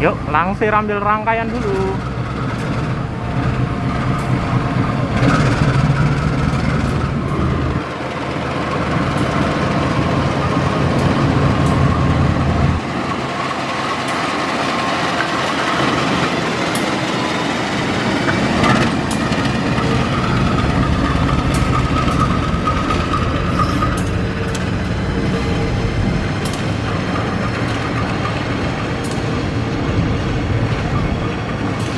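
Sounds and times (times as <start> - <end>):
diesel locomotive engine droning: 0.0 - 31.9.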